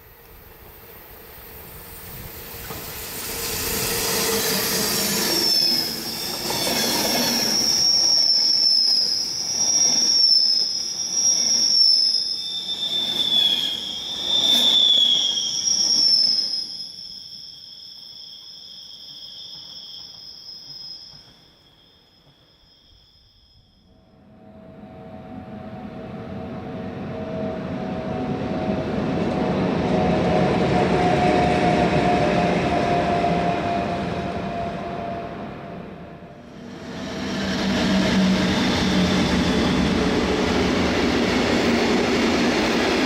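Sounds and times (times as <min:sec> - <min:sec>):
train rumbling past: 0:00.0 - 0:16.5, 0:24.0 - 0:43.0
train wheels squealing: 0:00.0 - 0:25.4, 0:26.3 - 0:43.0.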